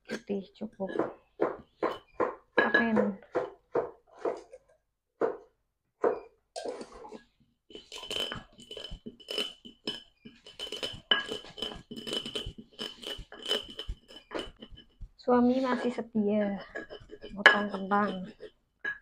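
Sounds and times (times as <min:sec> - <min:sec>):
pestle grinding in a mortar: 0:00.9 - 0:04.4, 0:06.8 - 0:19.0.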